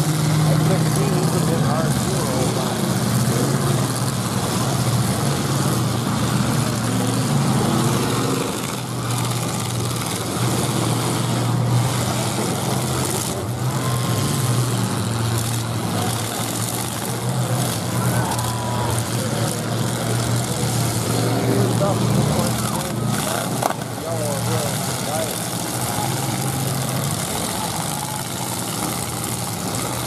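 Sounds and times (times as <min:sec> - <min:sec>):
car engines droning and revving: 0:00.0 - 0:30.0.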